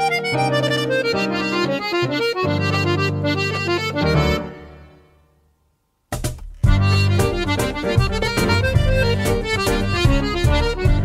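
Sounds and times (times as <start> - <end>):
accordion playing lively melody: 0.0 - 5.1, 6.6 - 11.0
keyboard piano accompaniment: 0.0 - 5.4, 6.1 - 11.0.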